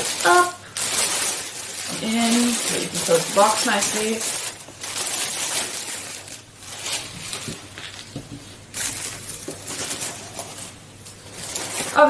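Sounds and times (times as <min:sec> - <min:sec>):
wrapping paper rustling: 0:00.0 - 0:12.0.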